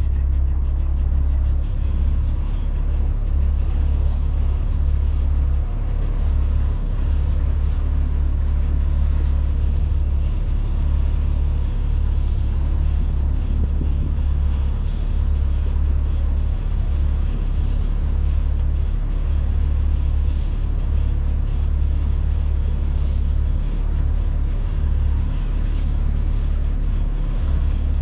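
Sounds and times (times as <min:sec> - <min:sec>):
boat motor rumbling: 0:00.0 - 0:28.0.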